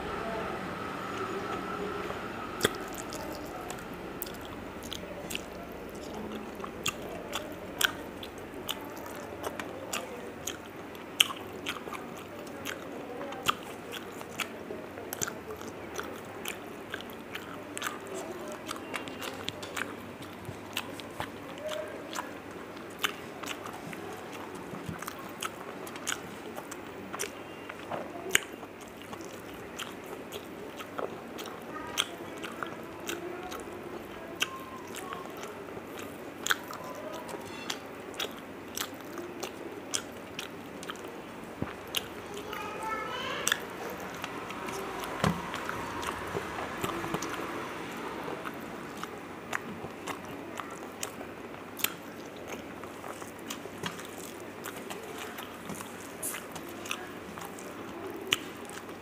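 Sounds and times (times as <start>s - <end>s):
person chewing and eating: 0.8s - 59.0s.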